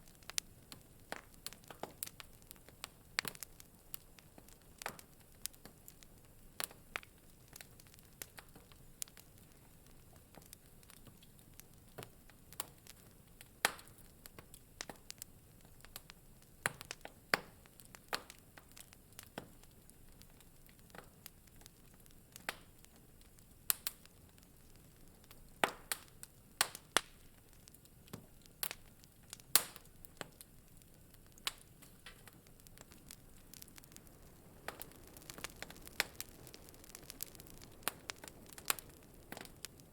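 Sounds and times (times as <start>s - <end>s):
faint low hiss: 0.0s - 39.9s
wood fire crackling: 0.0s - 39.9s.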